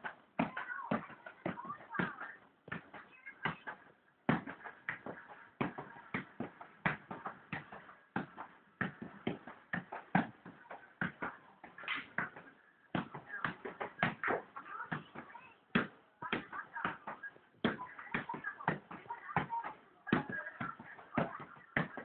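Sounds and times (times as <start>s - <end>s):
football thudding on touches: 0.0s - 22.0s.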